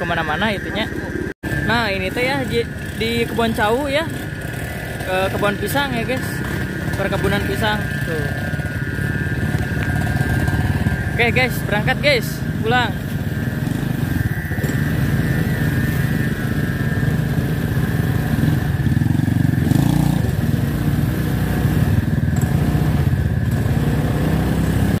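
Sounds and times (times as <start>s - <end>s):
small motorcycle engine running: 0.0s - 25.0s.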